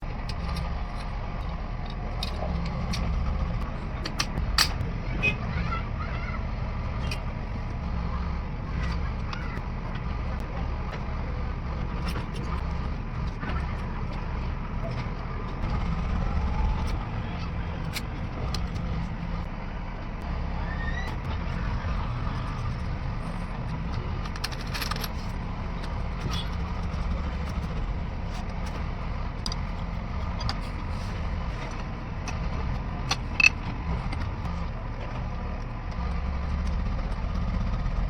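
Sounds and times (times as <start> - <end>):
low mechanical rumble: 0.0 - 38.0.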